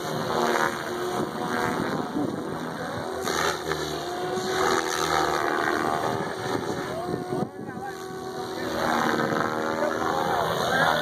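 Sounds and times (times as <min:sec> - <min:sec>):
rc helicopter rotor whir: 0:00.0 - 0:11.0.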